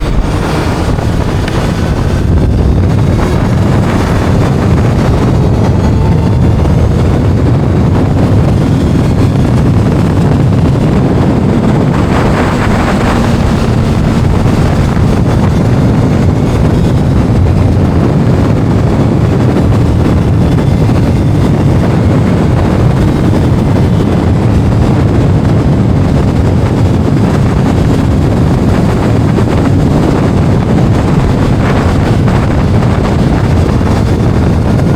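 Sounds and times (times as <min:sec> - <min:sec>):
motorcycle engine: 0:00.0 - 0:34.9
wind noise on microphone: 0:00.0 - 0:34.9.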